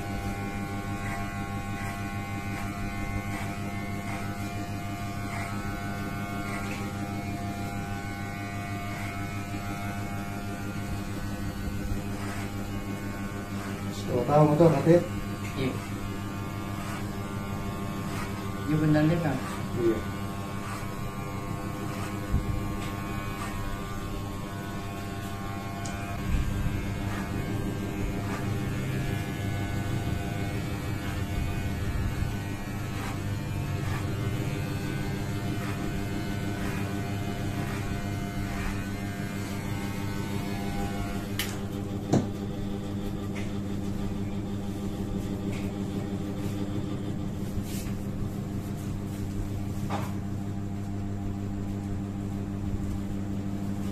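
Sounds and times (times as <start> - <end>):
electric hair clippers humming: 0.0 - 53.9.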